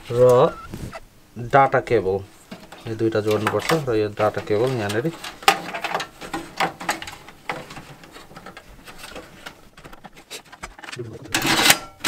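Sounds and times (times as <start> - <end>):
cable rustling: 2.2 - 12.0.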